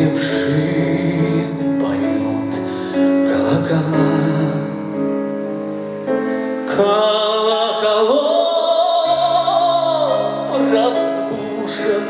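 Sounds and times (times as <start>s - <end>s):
song accompaniment chords: 0.0s - 12.0s.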